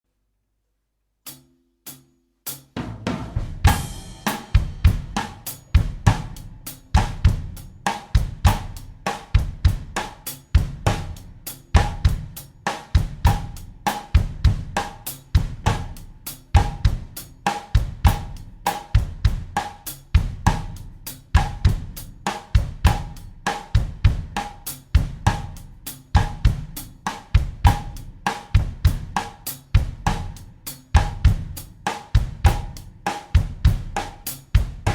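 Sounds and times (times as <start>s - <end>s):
drum kit bossa nova groove: 2.8s - 34.9s.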